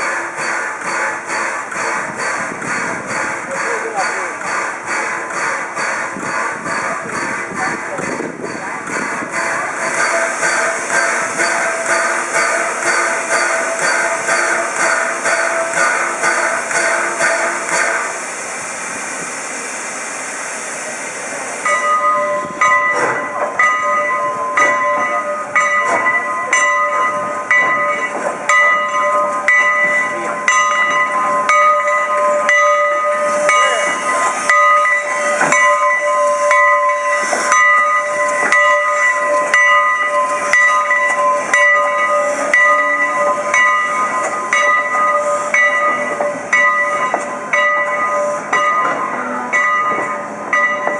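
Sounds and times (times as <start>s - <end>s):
locomotive bell ringing: 0.0s - 19.0s, 21.3s - 50.9s
steam hissing: 0.0s - 23.6s, 27.1s - 49.5s
steam engine working noise: 0.0s - 50.9s.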